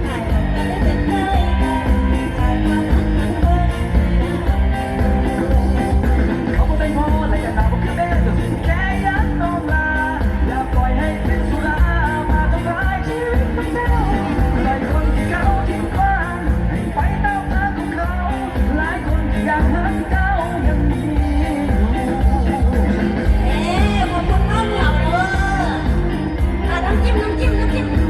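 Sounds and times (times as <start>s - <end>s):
live band bass-heavy beat: 0.0s - 28.0s
woman singing: 0.0s - 28.0s.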